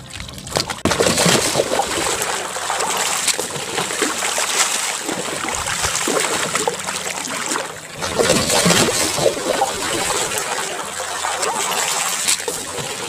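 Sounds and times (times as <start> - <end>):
eel splashing in water: 0.0 - 13.0.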